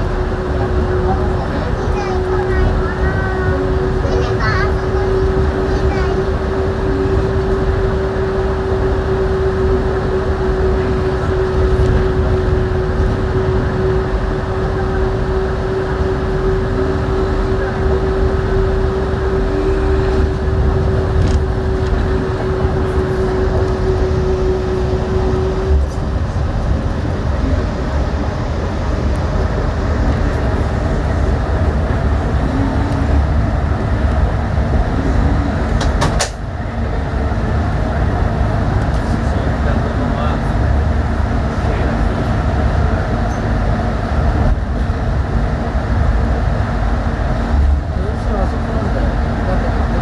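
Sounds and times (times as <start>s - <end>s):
train tyres rumbling on guideway: 0.0s - 50.0s.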